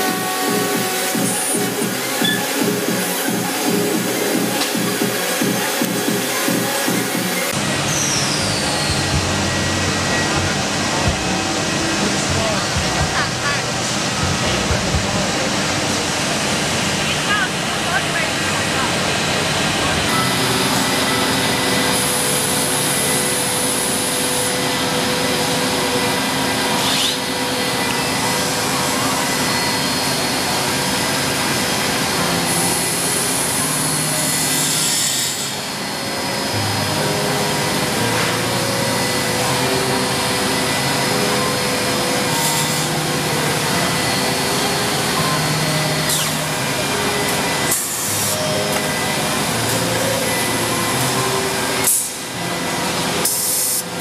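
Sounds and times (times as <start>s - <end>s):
cnc machine cutting wood: 0.0s - 54.0s.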